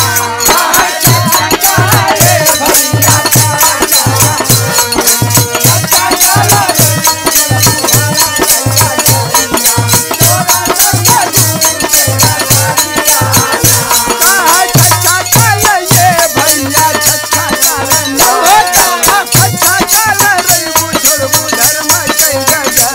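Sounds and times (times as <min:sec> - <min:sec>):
jingling hand clappers: 0:00.0 - 0:22.9.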